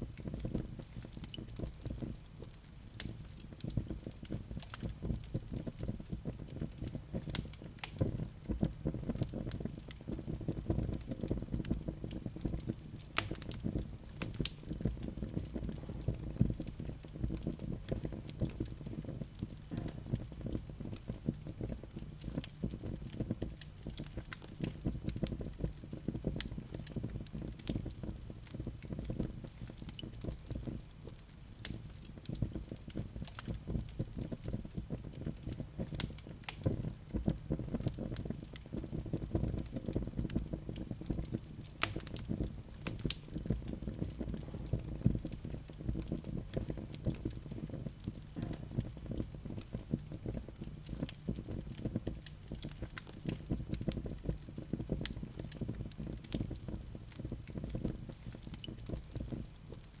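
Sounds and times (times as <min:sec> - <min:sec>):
burning logs crackling and popping: 0:00.0 - 1:00.0
fire flames rumbling: 0:00.0 - 1:00.0.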